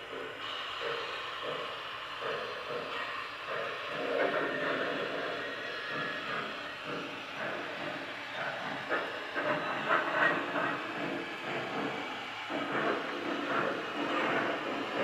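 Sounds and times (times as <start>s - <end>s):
model train steam hiss: 0.0s - 15.0s
wheels rattling on track: 0.0s - 15.0s.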